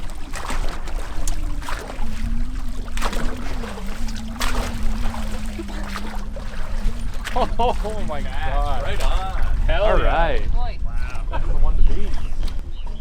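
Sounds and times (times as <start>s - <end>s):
water splashing and trickling: 0.0s - 11.3s
steady low hum: 0.0s - 13.0s.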